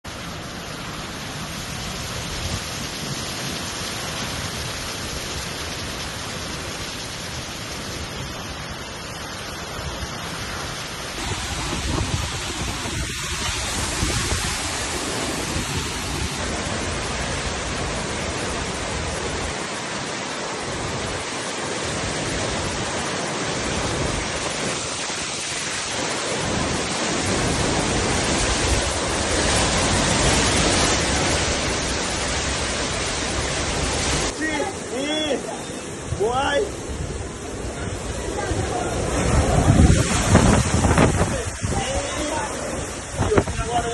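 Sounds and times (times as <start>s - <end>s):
strong wind gusting: 0.2s - 43.9s.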